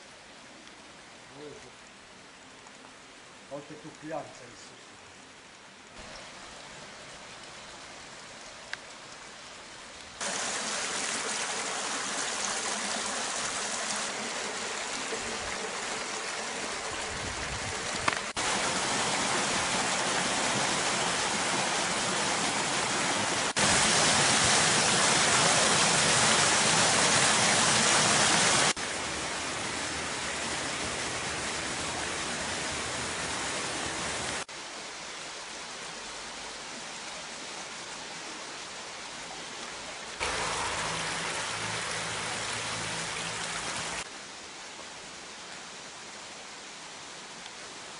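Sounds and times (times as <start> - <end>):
stream water rushing: 4.9 - 47.9.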